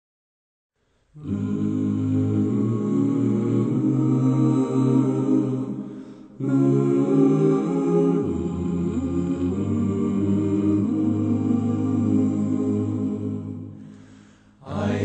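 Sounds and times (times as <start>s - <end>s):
vocal quartet singing hymn chords: 1.1s - 15.0s.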